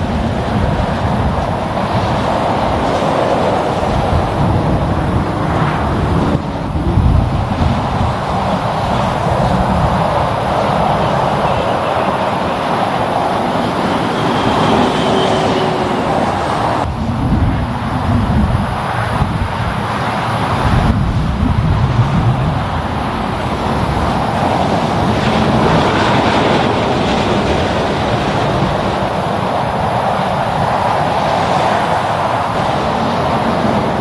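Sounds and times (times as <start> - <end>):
big vehicle rumbling by: 0.0 - 34.0
highway traffic passing: 0.0 - 34.0.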